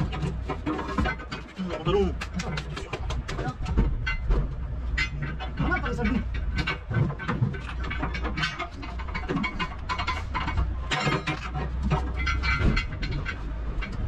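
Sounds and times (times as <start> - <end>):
heavy vehicle engine rumble: 0.0 - 14.0
metallic knocks and clanks: 0.0 - 14.0.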